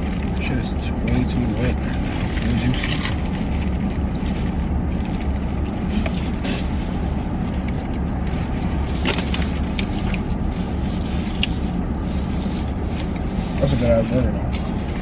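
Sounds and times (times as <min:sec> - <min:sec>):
car cabin engine rumble: 0:00.0 - 0:15.0.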